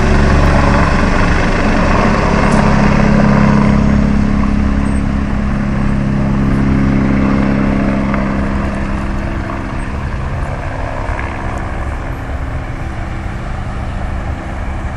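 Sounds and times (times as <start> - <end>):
helicopter engine hum: 0.0 - 14.9.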